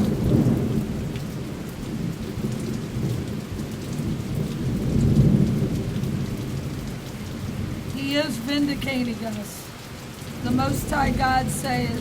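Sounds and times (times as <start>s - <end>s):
low rumble of thunder: 0.0s - 12.0s
rain falling: 0.0s - 12.0s
raindrop ticks: 0.0s - 12.0s.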